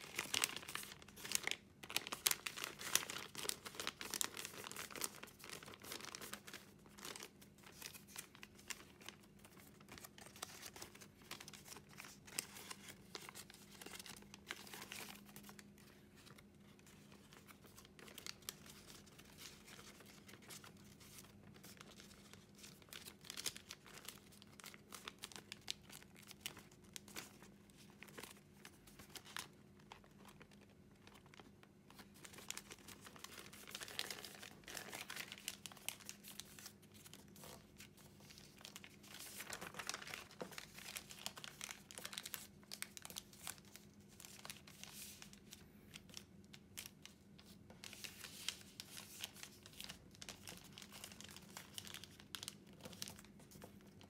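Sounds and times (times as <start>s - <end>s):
paper crinkling and crackling: 0.0s - 54.0s.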